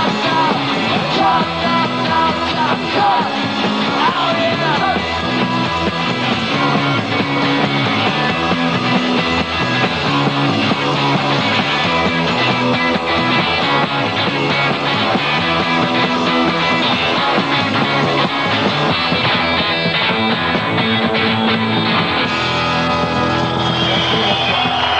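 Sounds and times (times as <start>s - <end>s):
bass line: 0.0s - 24.9s
electric guitar: 0.0s - 24.9s
steady drums: 0.0s - 24.9s.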